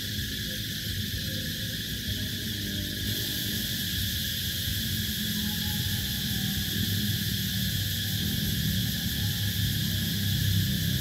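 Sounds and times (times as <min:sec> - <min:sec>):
low rumbling drone: 0:00.0 - 0:11.0
night insects chorus: 0:00.0 - 0:11.0.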